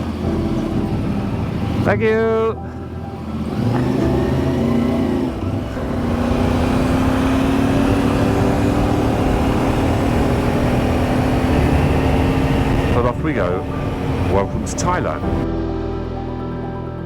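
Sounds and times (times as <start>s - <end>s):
motorcycle engine accelerating: 0.0s - 15.5s.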